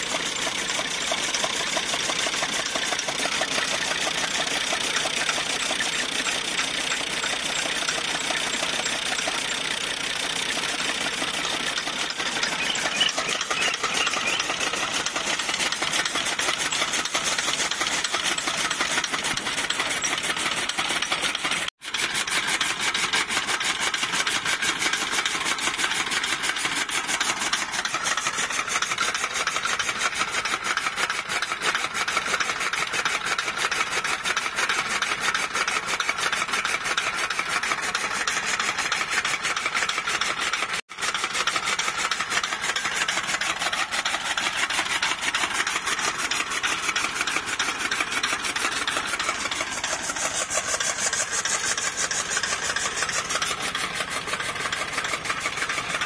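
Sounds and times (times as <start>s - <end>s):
chaff cutter chopping fodder: 0.0s - 56.0s.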